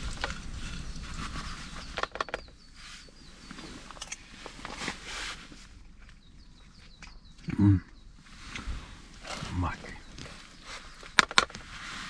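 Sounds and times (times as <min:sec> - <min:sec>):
soft rustling: 0:00.0 - 0:06.9, 0:08.2 - 0:12.0
small bird singing: 0:00.0 - 0:12.0.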